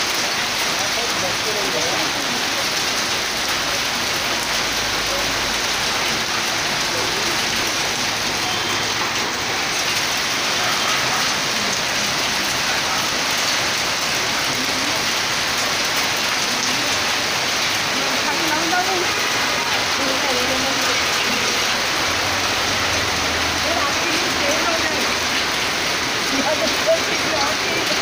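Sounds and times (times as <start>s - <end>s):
heavy rain and hail: 0.0s - 28.0s.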